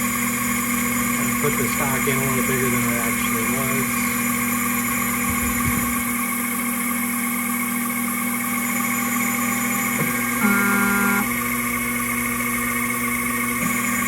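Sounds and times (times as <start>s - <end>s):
drive motor whine: 0.0s - 14.0s
mill machine hum and whine: 0.0s - 14.0s.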